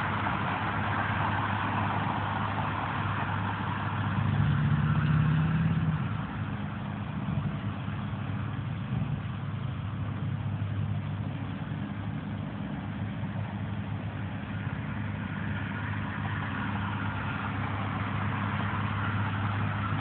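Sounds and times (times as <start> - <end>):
road traffic: 0.0 - 20.0
truck engine running: 0.0 - 20.0.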